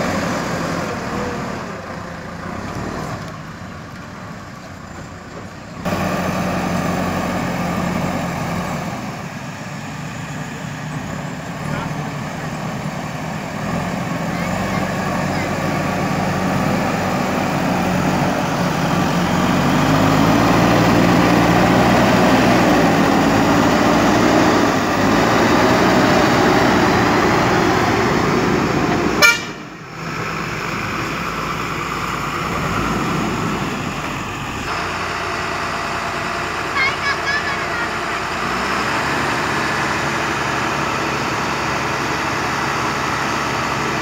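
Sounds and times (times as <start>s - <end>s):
diesel engine revving under load: 0.0s - 44.0s.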